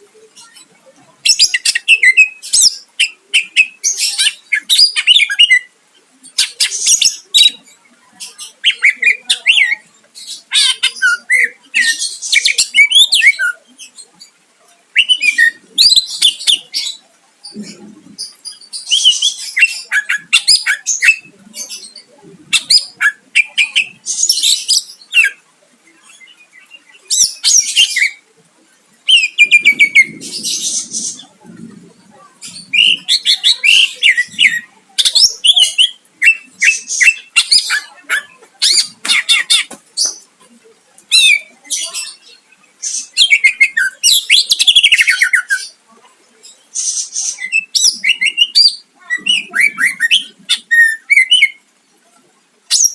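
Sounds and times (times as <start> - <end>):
bird singing chirps and trills: 0.0 - 28.3, 28.9 - 52.1.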